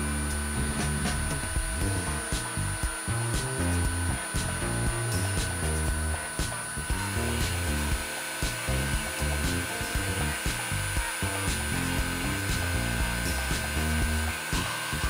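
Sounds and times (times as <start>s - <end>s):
background music with steady beat: 0.0s - 15.0s
granulator dryer whirring: 0.0s - 15.0s
high machine whine: 0.0s - 15.0s.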